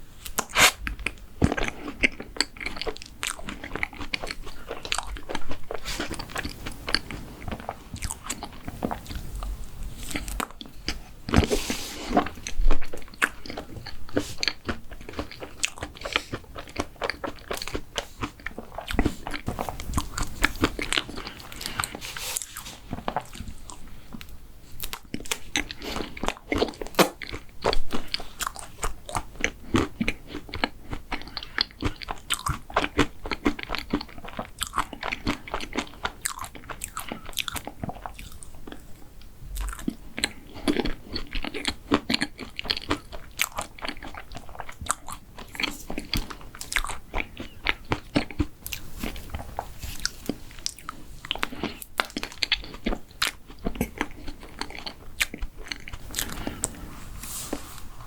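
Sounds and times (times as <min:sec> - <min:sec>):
crunchy chewing of dessert: 0:00.2 - 0:58.0.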